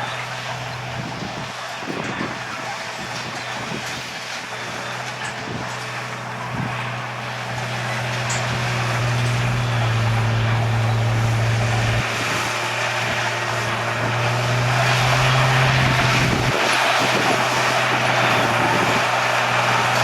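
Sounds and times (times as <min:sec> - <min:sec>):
diesel engine drone: 0:00.0 - 0:20.0
mechanical noise: 0:00.0 - 0:20.0.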